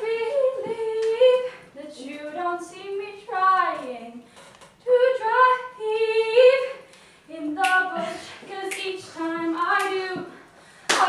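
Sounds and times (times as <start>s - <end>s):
woman singing unaccompanied: 0.0s - 4.2s, 4.8s - 11.0s.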